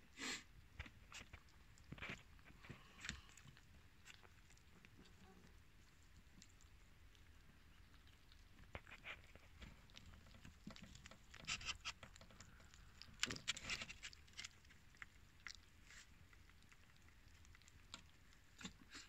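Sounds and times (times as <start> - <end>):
kittens chewing: 0.2 - 19.0.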